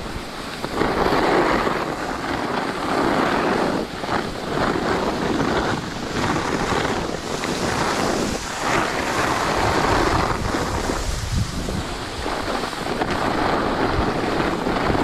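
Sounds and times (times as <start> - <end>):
skis sliding on snow: 0.0 - 15.0
wind buffeting microphone: 0.0 - 15.0.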